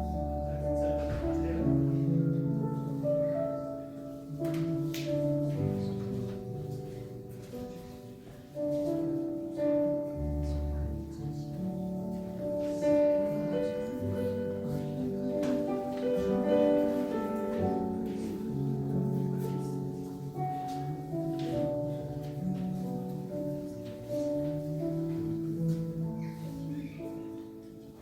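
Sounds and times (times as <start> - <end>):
electronic keyboard playing a hymn: 0.0 - 28.0.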